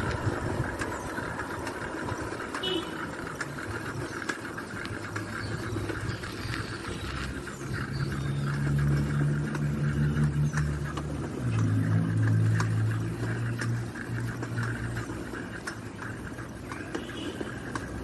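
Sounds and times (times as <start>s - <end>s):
road noise: 0.0s - 18.0s
vehicle engine hum: 0.0s - 18.0s.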